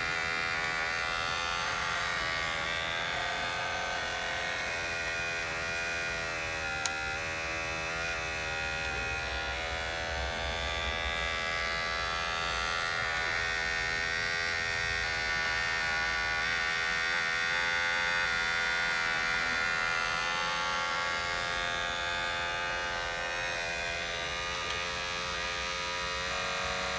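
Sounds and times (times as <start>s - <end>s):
toy excavator motors whining: 0.0s - 26.9s.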